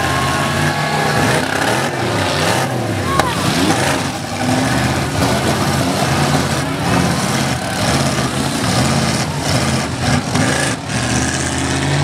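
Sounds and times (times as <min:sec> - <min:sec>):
car engines running hard: 0:00.0 - 0:12.0.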